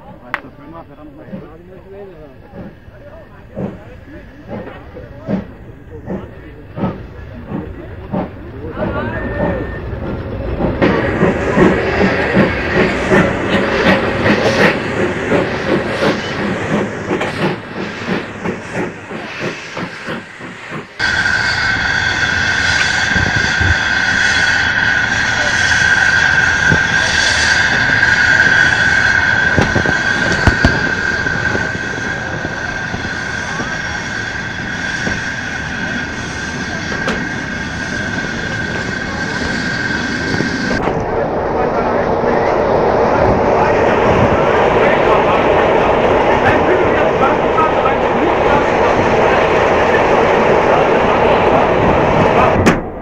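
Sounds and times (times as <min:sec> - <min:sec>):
steam locomotive chuffing: 0:00.2 - 0:53.0.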